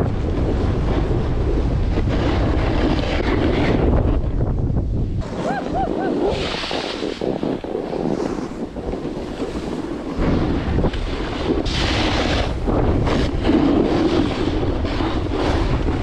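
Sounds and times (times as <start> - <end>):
wind buffeting microphone: 0.0 - 16.0
skis scraping on snow: 0.2 - 4.2, 5.2 - 16.0.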